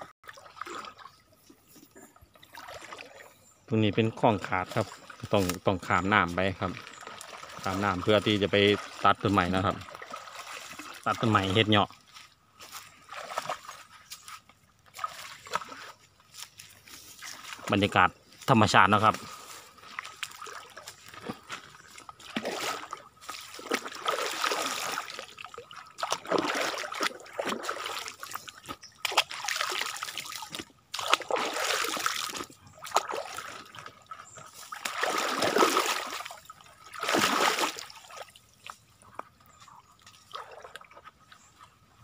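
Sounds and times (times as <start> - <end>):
feet sloshing through muddy water: 0.0 - 42.0.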